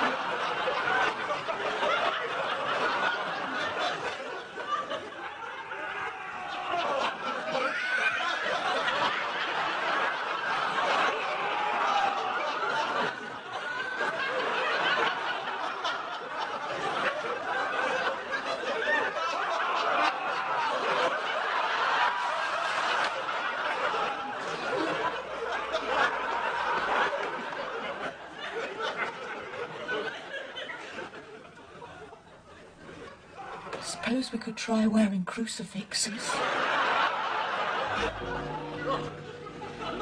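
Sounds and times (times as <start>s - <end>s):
studio audience laughing: 0.0s - 33.8s, 36.1s - 40.0s.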